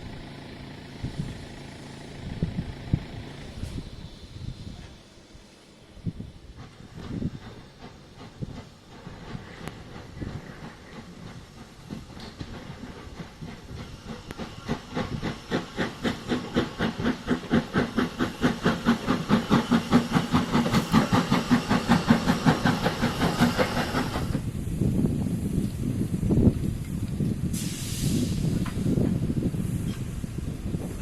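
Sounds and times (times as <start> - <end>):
steam locomotive exhaust beats: 0.0 - 31.0
steam hissing: 0.9 - 31.0.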